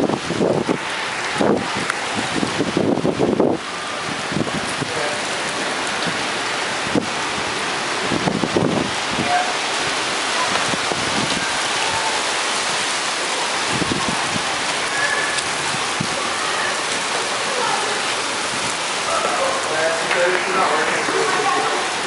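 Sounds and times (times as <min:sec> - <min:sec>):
heavy rain on street: 0:00.0 - 0:22.0.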